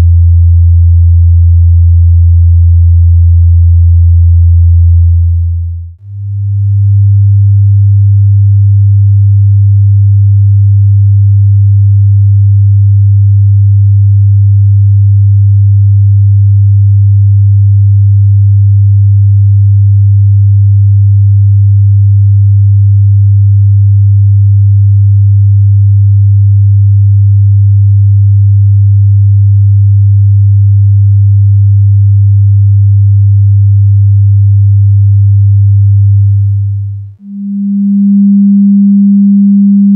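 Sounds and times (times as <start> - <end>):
low sine test tone: 0.0 - 39.9.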